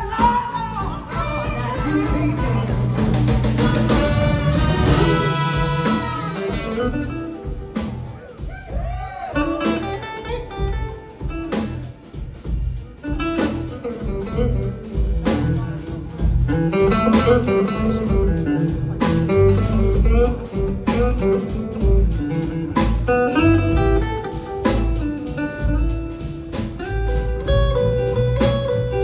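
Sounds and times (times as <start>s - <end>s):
blues-rock band playing: 0.0s - 29.0s
electric guitar lead with bent notes: 0.0s - 29.0s.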